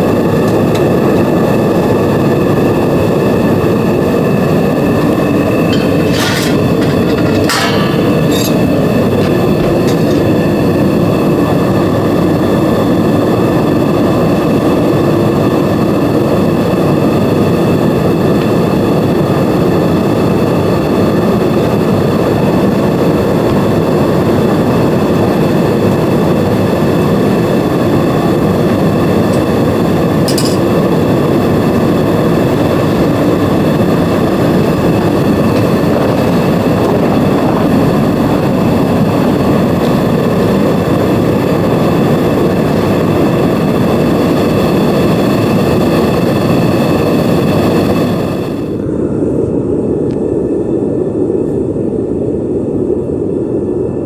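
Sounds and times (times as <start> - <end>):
furnace burner rushing: 0.0 - 48.9.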